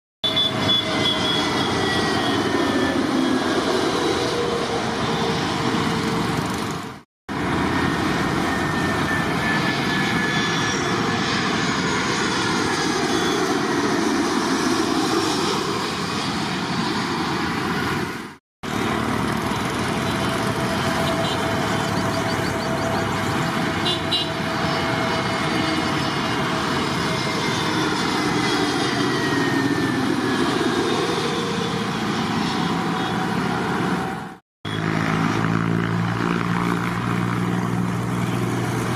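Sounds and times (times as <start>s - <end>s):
jet engines roaring past: 0.2s - 38.9s.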